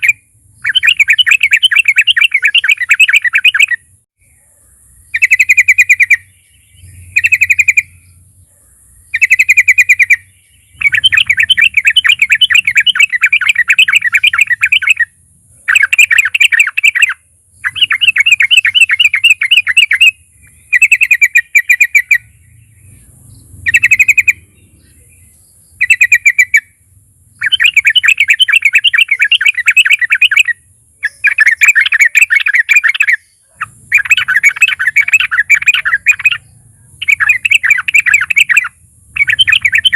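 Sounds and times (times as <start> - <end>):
bird singing chattering notes: 0.0 - 3.9, 4.9 - 39.9.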